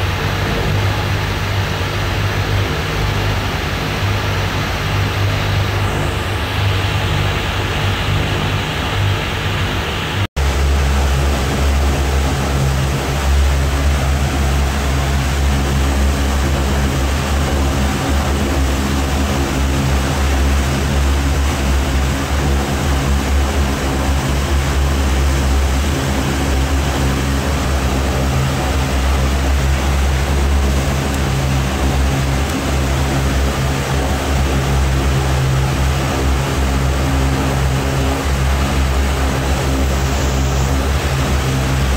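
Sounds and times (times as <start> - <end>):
radial aero engine running: 0.0 - 41.9.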